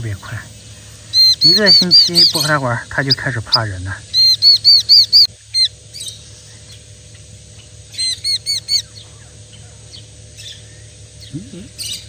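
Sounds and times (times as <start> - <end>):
fledgling songbird calling: 0.0 - 12.0.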